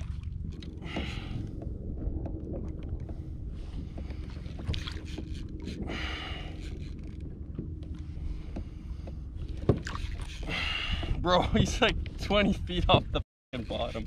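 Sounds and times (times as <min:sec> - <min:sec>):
water washing against kayak hull: 0:00.0 - 0:12.3
wind rumbling on microphone: 0:00.0 - 0:14.0.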